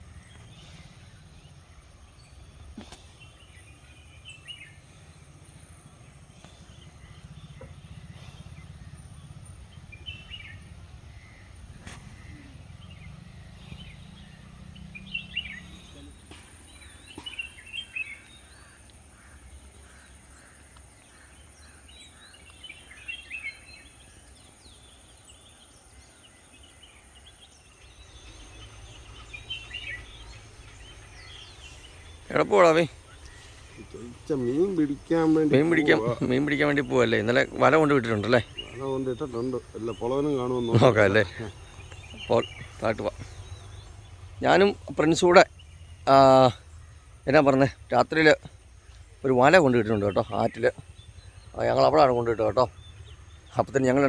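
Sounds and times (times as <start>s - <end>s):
steady low rumble: 0.0s - 22.3s, 27.8s - 54.0s
bird calls: 0.0s - 54.0s.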